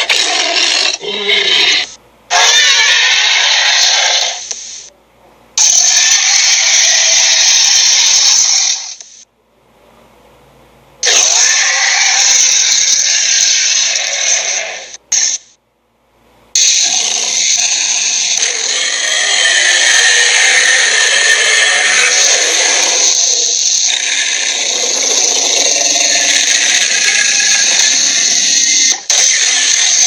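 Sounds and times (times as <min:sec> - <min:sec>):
dinosaur roaring and growling: 0:00.0 - 0:04.4, 0:05.6 - 0:08.7, 0:11.0 - 0:15.0, 0:16.6 - 0:30.0.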